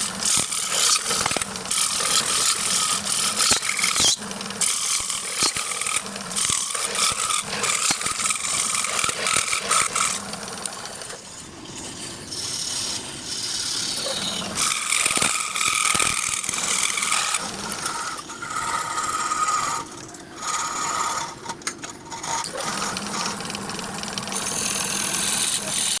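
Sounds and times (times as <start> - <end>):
lathe tool scraping spinning wood: 0.0 - 26.0.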